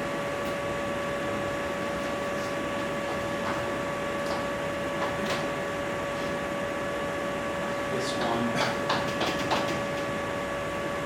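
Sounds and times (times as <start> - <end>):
hum-like whine and hiss: 0.0 - 11.0.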